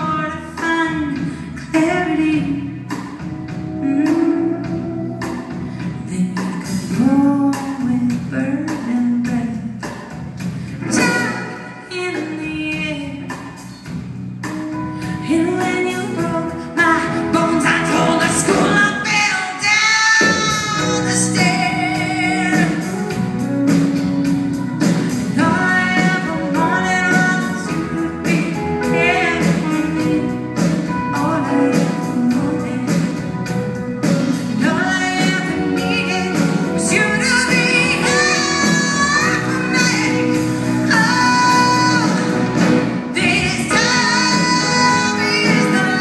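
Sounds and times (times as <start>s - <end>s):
woman singing: 0.0s - 10.2s, 10.8s - 13.9s, 14.7s - 46.0s
drums: 0.0s - 46.0s
electric guitar: 0.0s - 46.0s.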